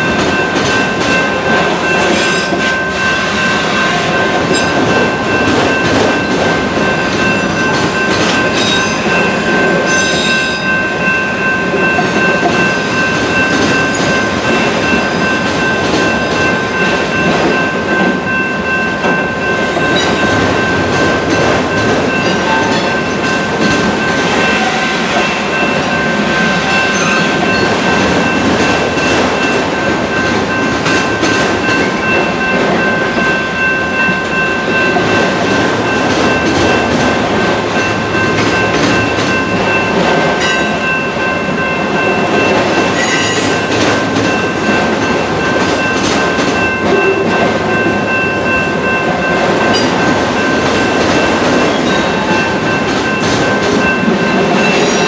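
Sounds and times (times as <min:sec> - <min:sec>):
train cars clanking: 0:00.0 - 0:55.0
train wheels rumbling on rail: 0:00.0 - 0:55.0.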